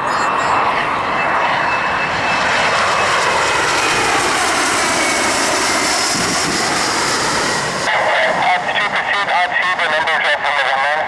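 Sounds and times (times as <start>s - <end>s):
jet airliner roaring overhead: 0.0s - 11.0s.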